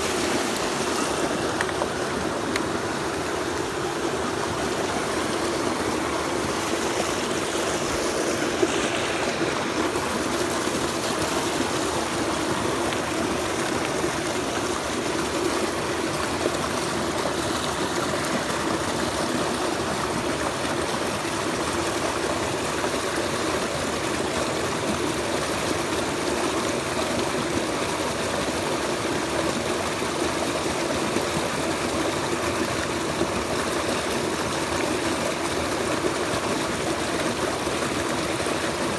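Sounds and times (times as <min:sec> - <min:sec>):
stream water running over rocks: 0:00.0 - 0:38.9.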